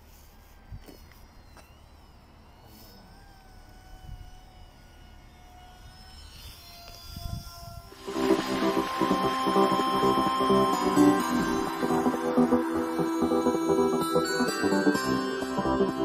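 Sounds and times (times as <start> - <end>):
high whine of model plane motor: 0.0 - 16.0.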